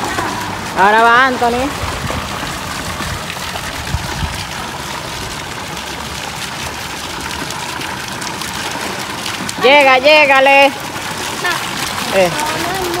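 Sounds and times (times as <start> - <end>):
water running steadily: 0.0 - 13.0.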